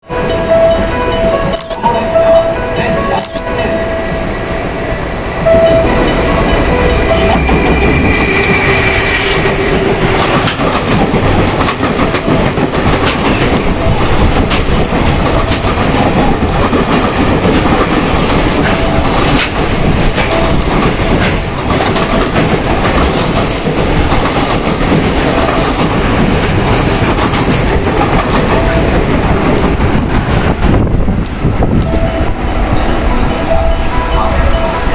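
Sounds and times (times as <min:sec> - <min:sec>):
steady tones: 0:00.0 - 0:34.9
train rumbling past: 0:00.1 - 0:34.9.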